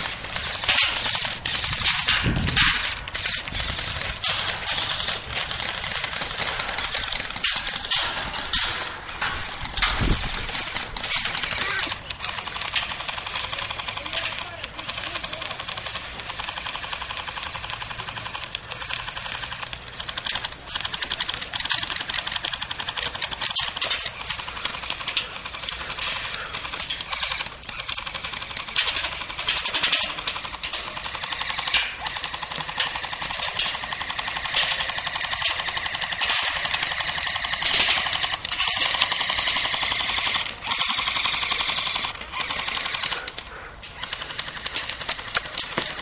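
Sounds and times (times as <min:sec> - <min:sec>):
airsoft guns firing bursts: 0:00.0 - 0:46.0.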